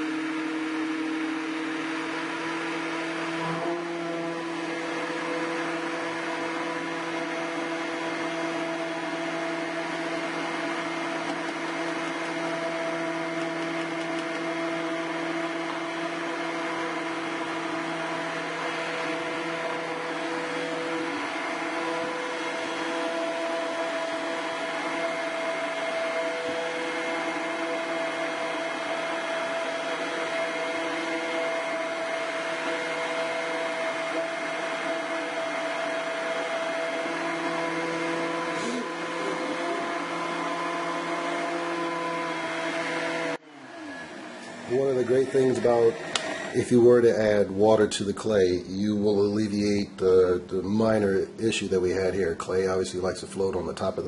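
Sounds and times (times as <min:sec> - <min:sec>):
stick blender motor hum: 0:00.0 - 0:47.3.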